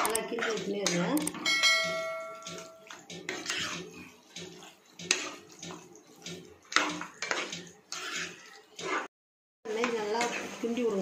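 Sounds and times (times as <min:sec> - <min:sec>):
metal spoon scraping frying pan: 0:00.0 - 0:09.1, 0:09.7 - 0:11.0
meat frying: 0:00.0 - 0:11.0.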